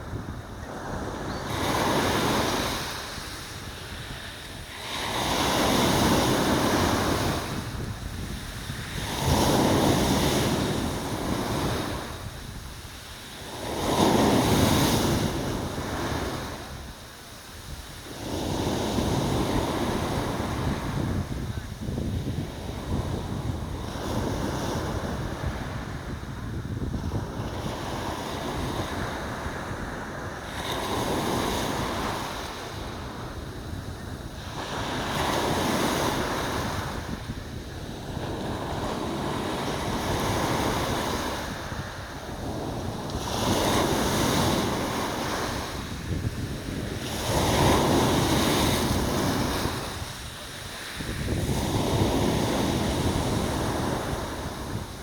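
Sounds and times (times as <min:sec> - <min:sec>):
wind buffeting microphone: 0:00.0 - 0:17.0, 0:17.6 - 0:55.0
sea waves breaking on shore: 0:00.0 - 0:55.0.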